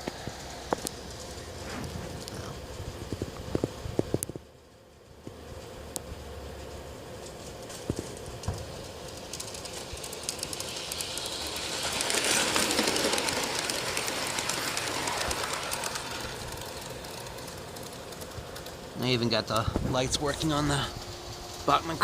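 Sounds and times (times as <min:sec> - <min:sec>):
model train wheels clicking on rails: 0:00.0 - 0:04.3, 0:07.2 - 0:22.0.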